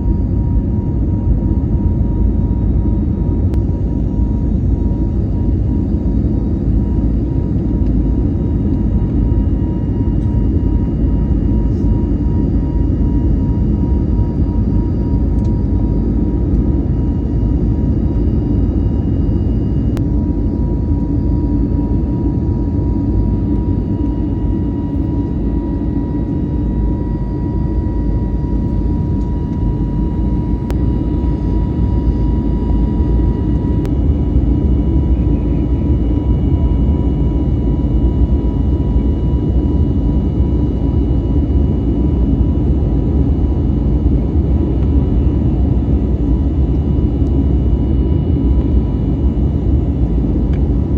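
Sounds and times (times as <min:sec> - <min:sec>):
airliner engines rumbling: 0:00.0 - 0:50.9
high engine whine: 0:00.0 - 0:50.9.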